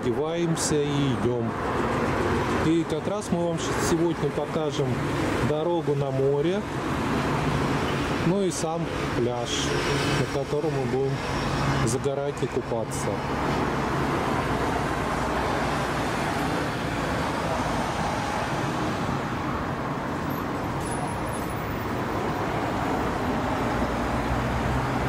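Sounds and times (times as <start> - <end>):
distant road traffic: 0.0 - 25.0.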